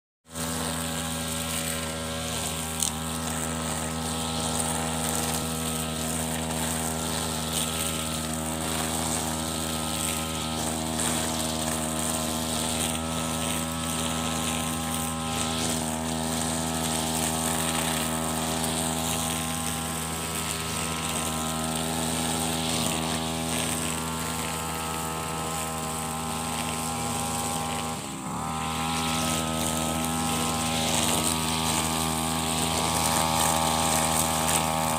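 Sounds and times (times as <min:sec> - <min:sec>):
brush cutter cutting grass: 0:00.2 - 0:34.9.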